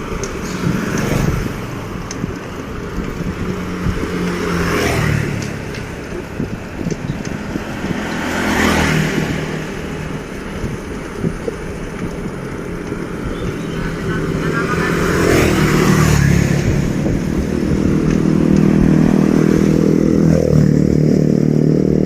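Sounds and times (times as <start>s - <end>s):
steady traffic rumble: 0.0s - 22.0s
vehicles passing on road: 0.0s - 22.0s.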